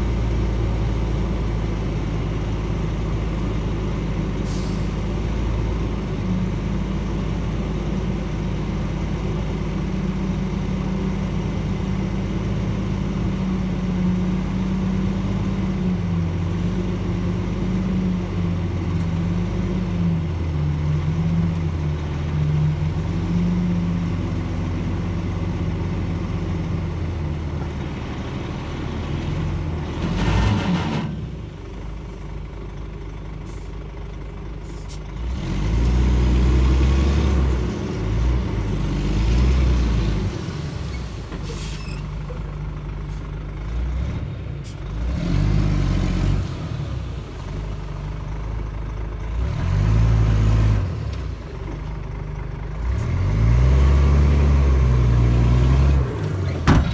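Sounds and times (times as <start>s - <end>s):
bulldozer engine surging: 0.0s - 33.4s, 34.0s - 56.9s.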